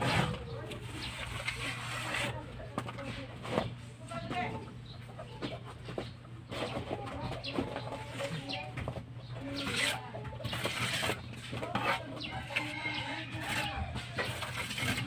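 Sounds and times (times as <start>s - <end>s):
masonry scraping and knocking: 0.0s - 4.7s, 5.3s - 15.0s
chickens clucking: 0.0s - 15.0s
small birds chirping: 0.4s - 14.4s.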